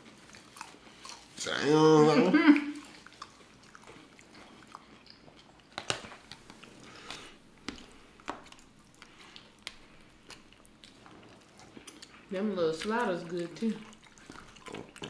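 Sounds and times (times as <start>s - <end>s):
biting and chewing: 0.0s - 1.4s, 2.8s - 15.0s.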